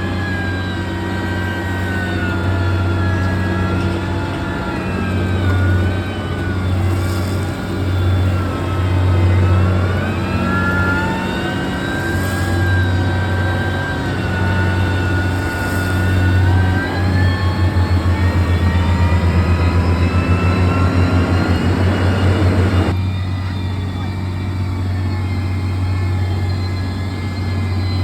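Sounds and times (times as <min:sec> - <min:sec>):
engine whine: 0:00.0 - 0:28.0
heavy machine engine humming: 0:00.0 - 0:28.0.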